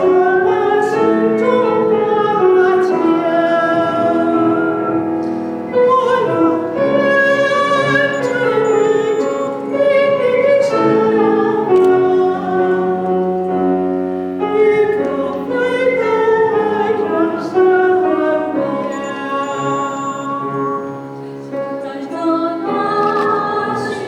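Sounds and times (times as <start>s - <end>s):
vocal ensemble singing: 0.0s - 13.5s, 14.4s - 24.0s
piano accompaniment: 0.0s - 24.0s.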